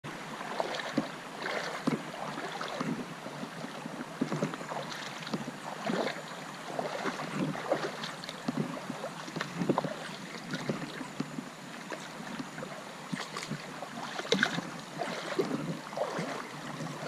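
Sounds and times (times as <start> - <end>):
legs wading through water: 0.1 - 17.0.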